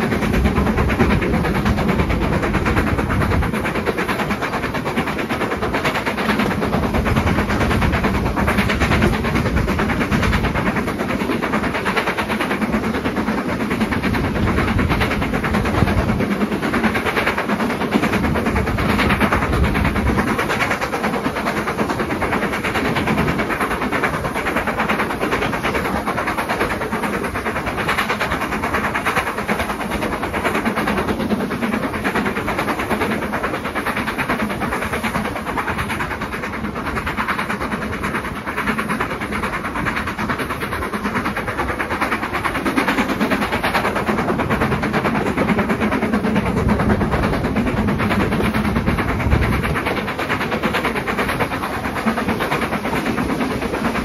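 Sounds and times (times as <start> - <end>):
steam locomotive exhaust: 0.0 - 54.0.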